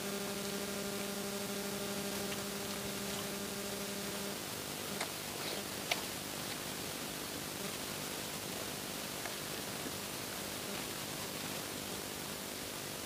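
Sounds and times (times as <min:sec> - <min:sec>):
rain hiss: 0:00.0 - 0:13.0.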